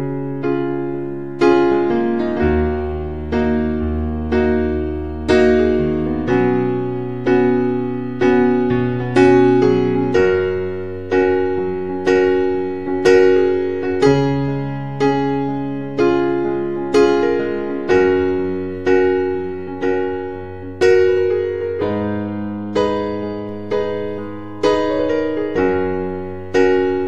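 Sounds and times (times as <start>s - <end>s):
electric piano chords: 0.0s - 27.0s.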